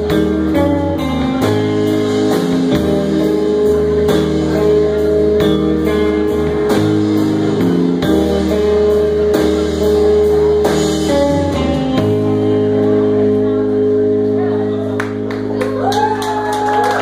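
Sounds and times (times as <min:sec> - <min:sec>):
drum kit: 0:00.0 - 0:17.0
electric bass: 0:00.0 - 0:17.0
electric guitar: 0:00.0 - 0:17.0.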